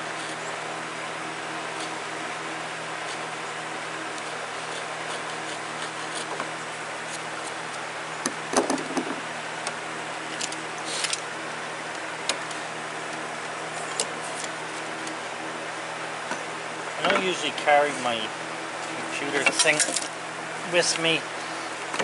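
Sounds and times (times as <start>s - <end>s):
electric fan humming: 0.0s - 22.0s.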